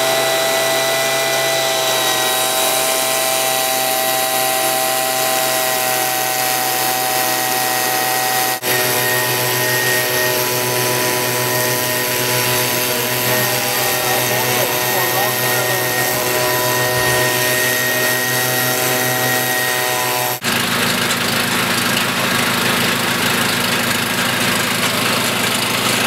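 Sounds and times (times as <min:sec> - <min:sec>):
handheld blower running: 0:00.0 - 0:26.0.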